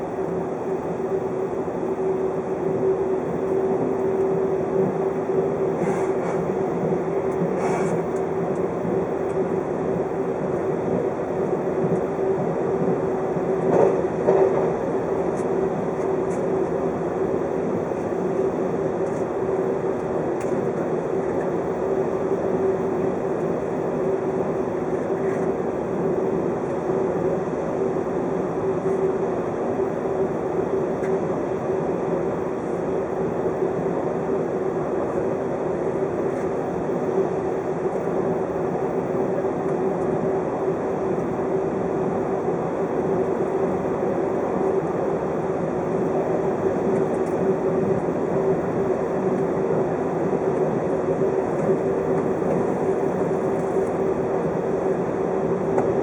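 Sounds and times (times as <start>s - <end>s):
electric train running rumble: 0.0s - 56.0s.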